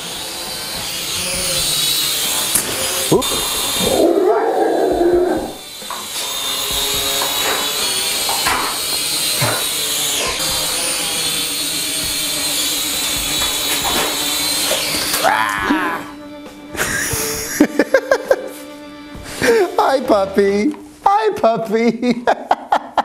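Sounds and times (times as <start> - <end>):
drone propellers whining: 0.0 - 19.6.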